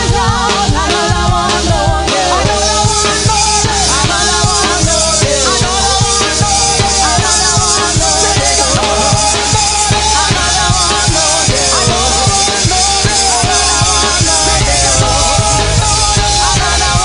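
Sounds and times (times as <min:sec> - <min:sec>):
fast drum kit beat: 0:00.0 - 0:17.0.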